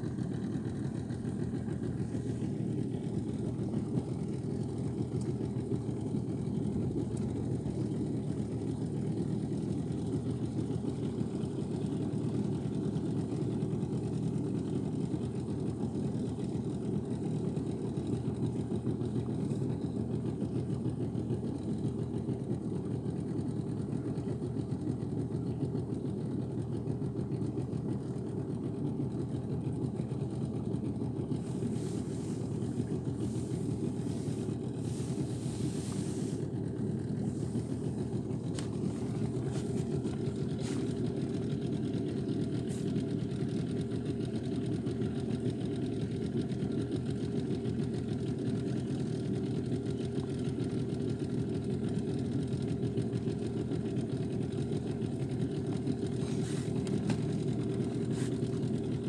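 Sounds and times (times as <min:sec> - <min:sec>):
boat motor droning: 0:00.0 - 0:59.0.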